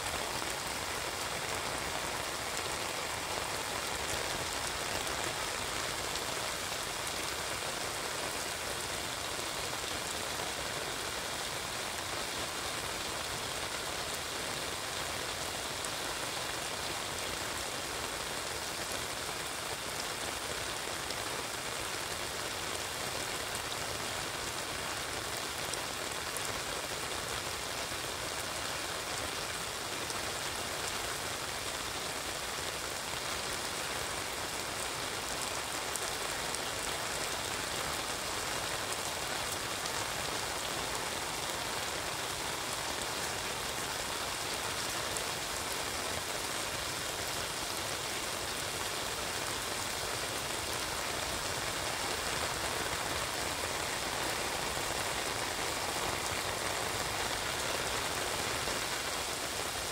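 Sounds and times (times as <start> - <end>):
heavy rain on wet pavement: 0.0 - 59.9.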